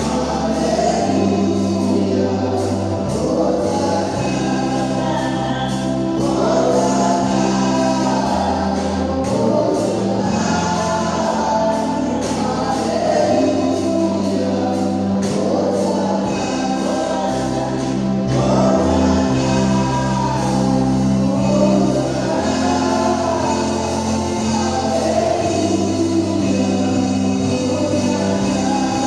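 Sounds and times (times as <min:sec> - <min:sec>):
gospel choir singing: 0:00.0 - 0:29.0
held keyboard bass notes: 0:00.0 - 0:29.0.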